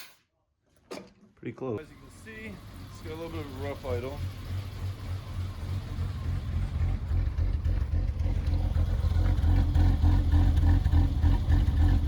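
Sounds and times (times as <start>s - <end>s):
car engine idling roughly: 1.8s - 12.0s.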